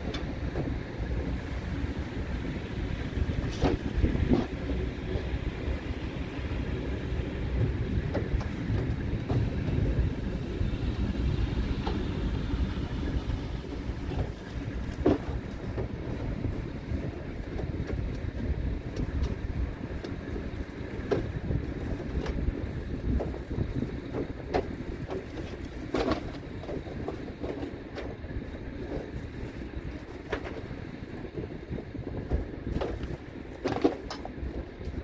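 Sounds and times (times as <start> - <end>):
road rumble: 0.0 - 35.0.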